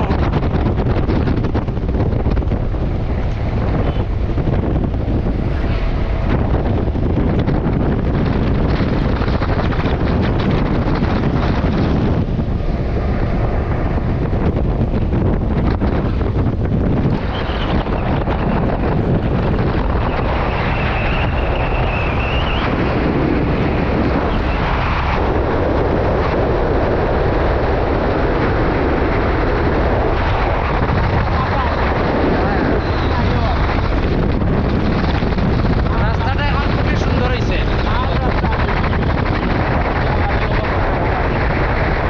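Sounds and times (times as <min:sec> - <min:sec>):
motorcycle running: 0:00.0 - 0:42.0
wind buffeting microphone: 0:00.0 - 0:42.0.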